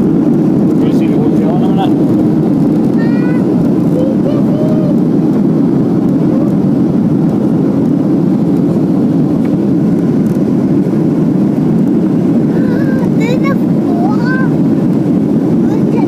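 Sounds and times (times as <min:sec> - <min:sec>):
airliner engines and rushing air: 0:00.0 - 0:16.0.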